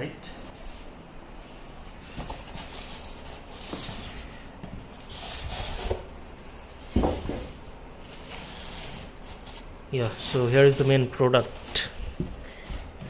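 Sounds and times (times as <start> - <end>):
cardboard and foam packing rustling: 1.8 - 13.0.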